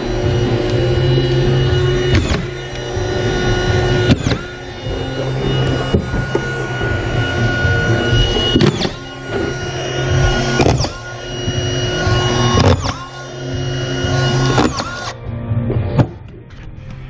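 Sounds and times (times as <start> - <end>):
power screw gun whining: 0.0 - 15.2.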